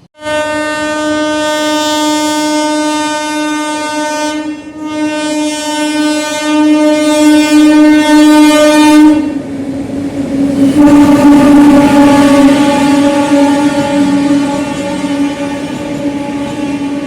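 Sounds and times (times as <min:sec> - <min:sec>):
train horn blasts: 0:00.0 - 0:09.4, 0:10.4 - 0:17.0
train rumble and wheel clatter: 0:00.0 - 0:17.0.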